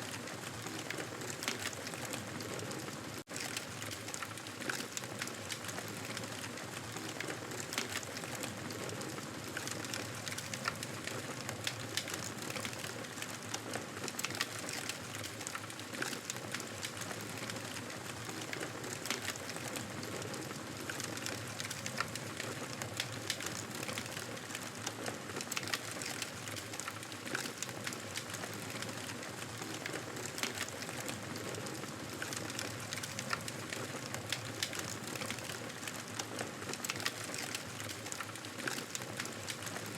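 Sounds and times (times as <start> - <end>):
campfire hissing and crackling: 0.0 - 39.9.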